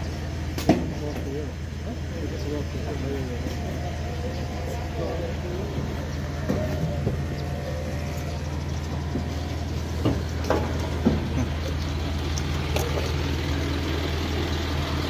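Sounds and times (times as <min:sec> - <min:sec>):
large truck engine idling: 0:00.0 - 0:15.0.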